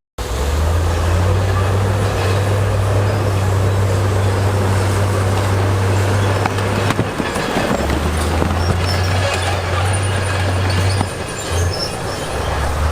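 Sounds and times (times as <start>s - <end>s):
diesel engine running: 0.2s - 12.9s.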